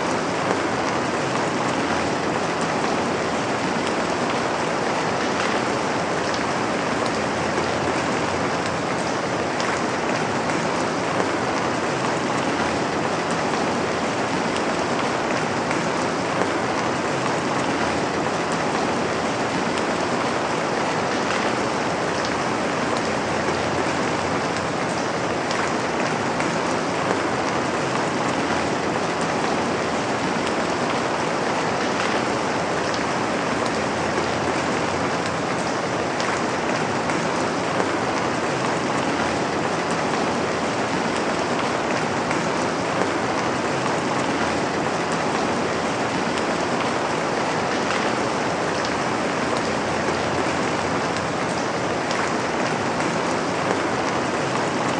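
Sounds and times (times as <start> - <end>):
patter of raindrops: 0.0 - 54.9
steady rain falling: 0.0 - 54.9.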